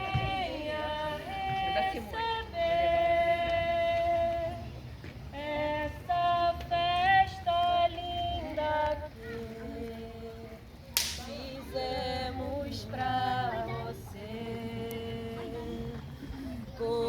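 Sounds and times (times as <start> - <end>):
voices singing unaccompanied: 0.0 - 17.0.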